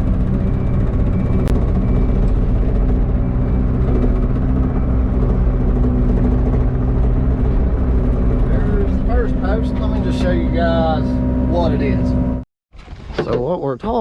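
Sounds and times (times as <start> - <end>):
diesel engine running: 0.0 - 12.5.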